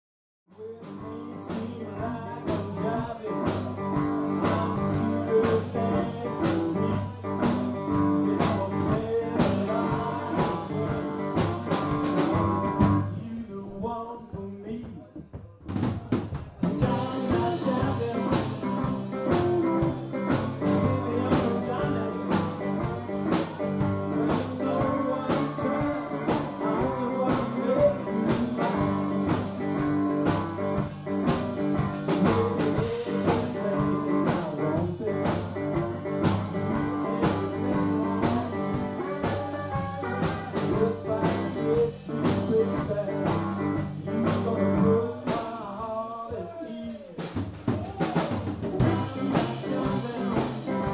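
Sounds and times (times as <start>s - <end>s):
blues band playing: 0.6s - 13.3s, 14.7s - 50.9s.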